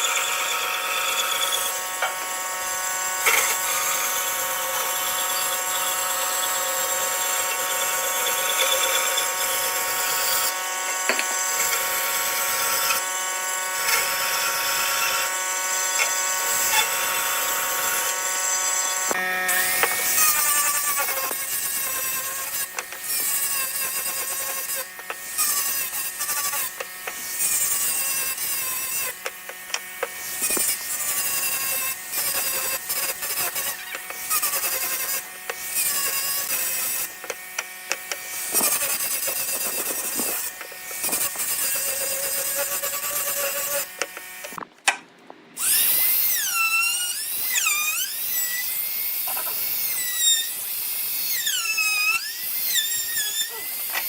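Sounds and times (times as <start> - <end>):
power tools cutting wood: 0.0 - 54.0.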